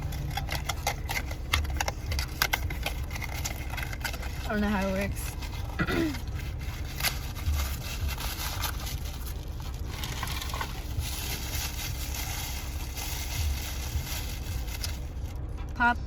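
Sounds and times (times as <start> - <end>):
packaging crinkling and rustling: 0.0 - 15.5.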